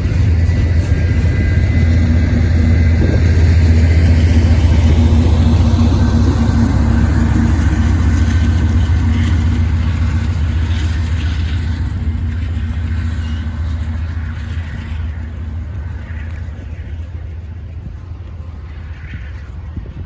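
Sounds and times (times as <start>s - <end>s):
diesel locomotive engine hum: 0.0s - 20.0s.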